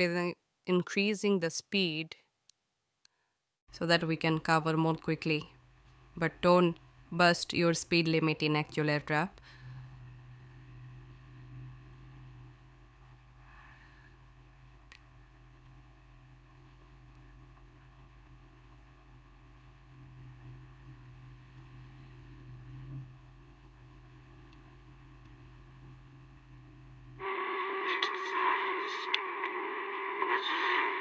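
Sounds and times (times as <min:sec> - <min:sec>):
faint low hum: 0:03.7 - 0:30.4.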